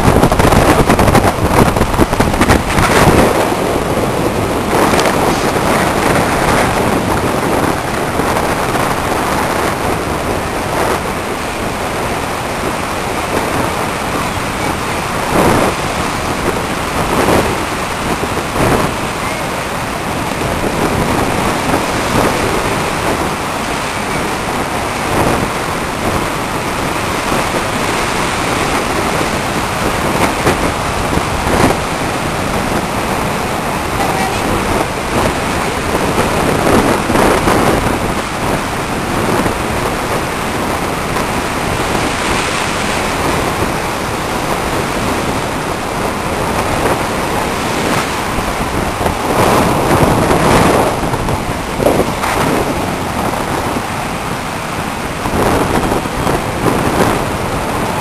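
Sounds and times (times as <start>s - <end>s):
waves breaking in heavy surf: 0.0s - 58.0s
wind buffeting microphone: 0.0s - 58.0s.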